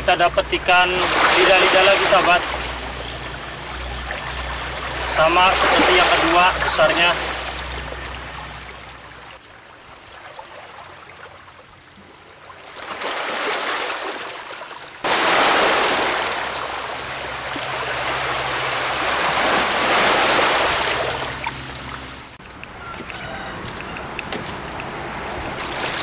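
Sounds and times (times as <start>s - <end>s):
waves splashing over rocks: 0.0s - 9.5s, 12.4s - 22.4s, 24.1s - 26.0s.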